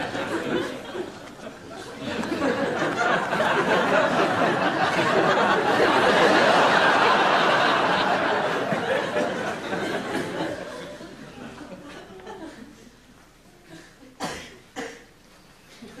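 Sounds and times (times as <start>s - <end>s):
audience laughing: 0.0s - 12.9s.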